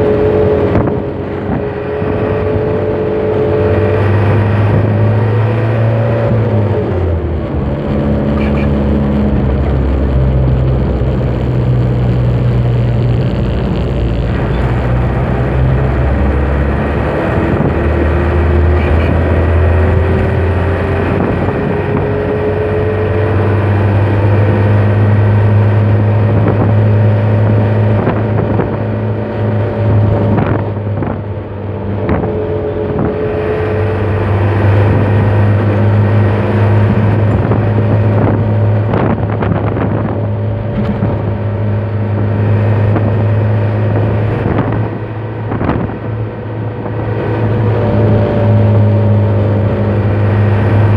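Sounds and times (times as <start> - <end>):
truck engine droning: 0.0 - 50.9.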